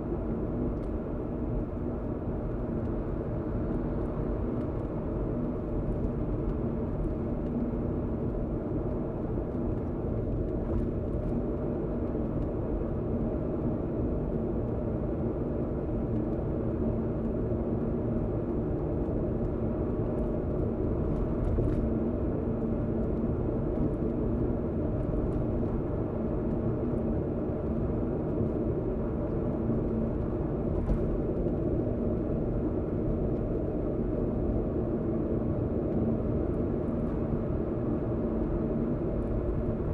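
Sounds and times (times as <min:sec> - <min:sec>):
constant hum: 0:00.0 - 0:39.9
car tyre and engine rumble: 0:00.2 - 0:39.9.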